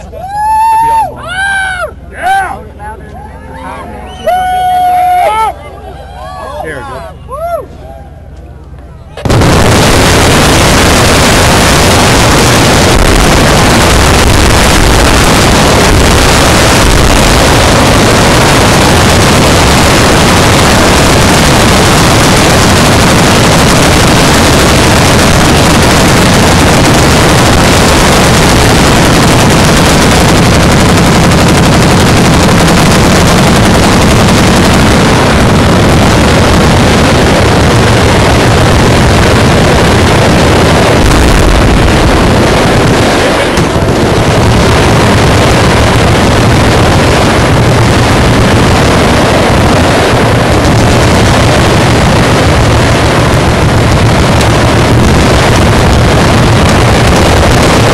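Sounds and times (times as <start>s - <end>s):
deep boom: 9.2s - 57.9s.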